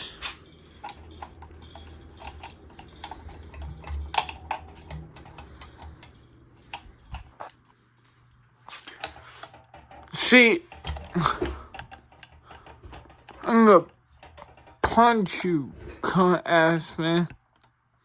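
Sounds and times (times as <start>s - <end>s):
fan ticking and clicking: 0.0s - 7.7s, 8.7s - 17.9s
ceiling fan humming: 0.0s - 18.0s.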